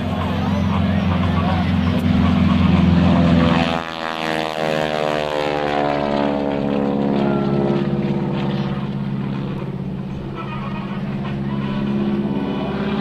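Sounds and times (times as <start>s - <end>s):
propeller aircraft passing by: 0.0s - 13.0s.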